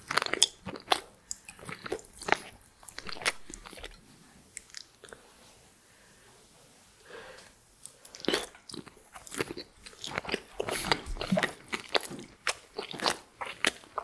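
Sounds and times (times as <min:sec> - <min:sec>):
person chewing crunchy food: 0:00.0 - 0:05.2, 0:07.8 - 0:14.0.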